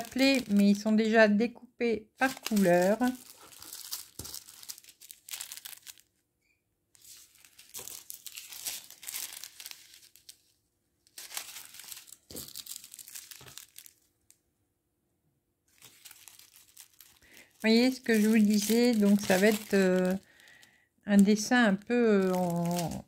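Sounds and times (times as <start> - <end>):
plastic sachets crinkling: 0.0 - 1.2, 2.2 - 6.2, 7.0 - 14.4, 15.7 - 23.0.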